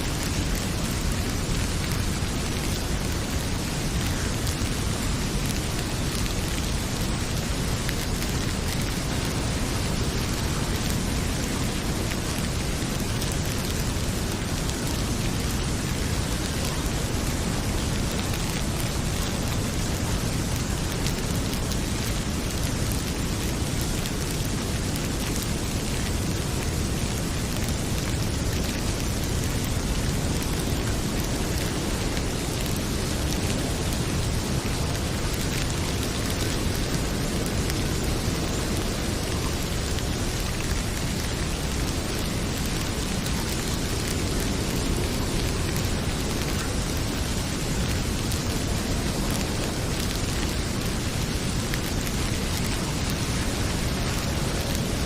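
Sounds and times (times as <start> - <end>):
heavy rain pouring: 0.0 - 55.0
faint fireplace crackles: 0.1 - 55.0.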